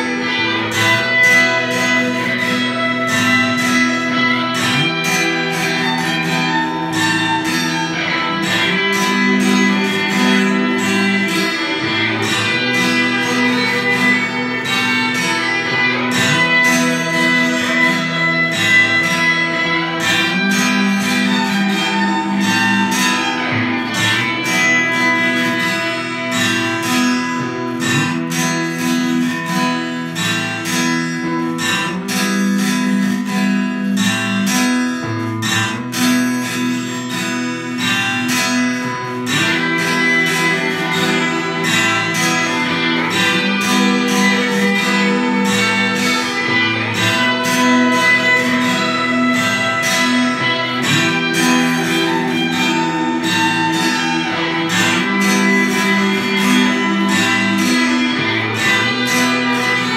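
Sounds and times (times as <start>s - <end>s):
plucked and strummed guitar: 0.0s - 59.9s.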